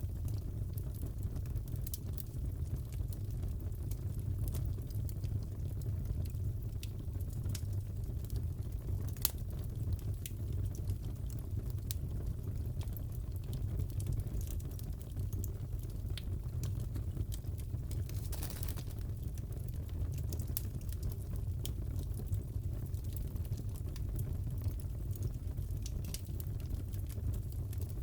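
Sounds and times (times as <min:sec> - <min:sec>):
fireplace crackling and popping: 0:00.0 - 0:28.0.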